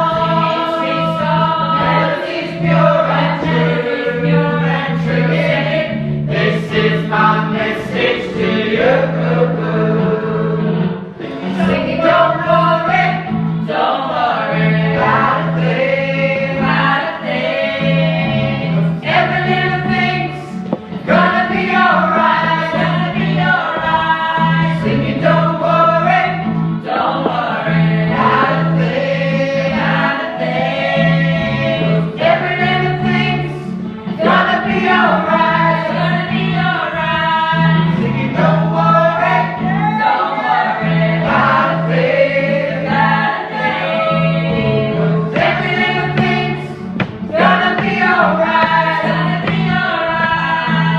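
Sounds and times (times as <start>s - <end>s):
choir singing gospel: 0.0s - 50.9s.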